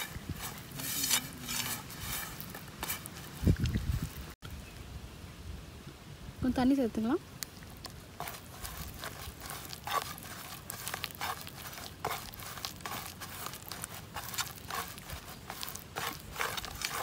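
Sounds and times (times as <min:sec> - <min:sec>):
hand squelching wet paste: 0:00.0 - 0:04.3, 0:07.4 - 0:17.0.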